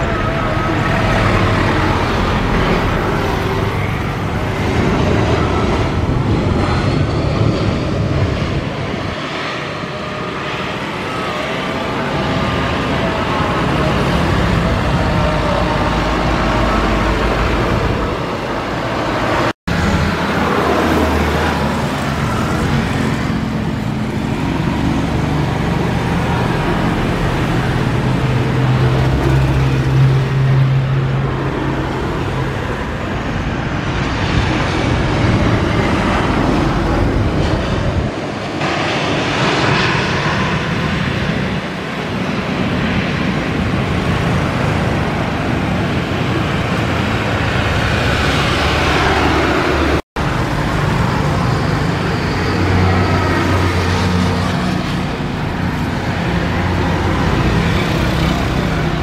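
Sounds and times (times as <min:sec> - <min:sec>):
jet airliner engines landing: 0:00.0 - 0:59.0.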